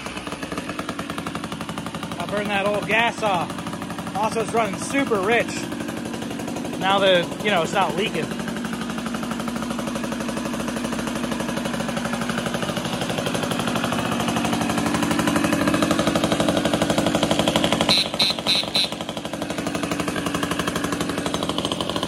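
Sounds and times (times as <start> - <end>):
moped engine running: 0.0 - 22.0.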